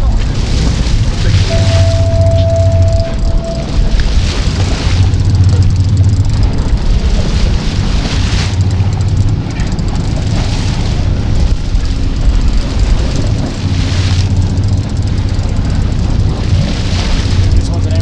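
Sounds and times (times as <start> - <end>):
boat engines humming: 0.0 - 18.0
water rushing: 0.0 - 18.0
wind: 0.0 - 18.0.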